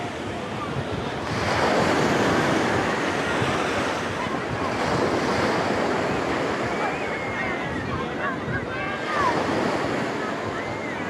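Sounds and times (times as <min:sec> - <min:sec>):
sea waves washing onto beach: 0:00.0 - 0:11.0
wind on microphone: 0:00.0 - 0:11.0.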